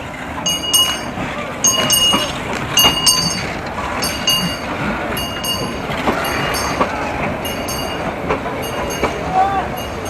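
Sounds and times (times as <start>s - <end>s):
train rumble: 0.0s - 10.0s
train wheels clicking over rail joints: 0.0s - 10.0s.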